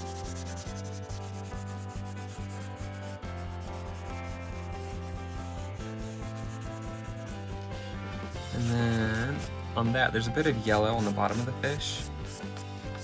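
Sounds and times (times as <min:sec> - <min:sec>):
crayon scribbling on paper: 0:00.0 - 0:13.0
soft background music: 0:00.0 - 0:13.0.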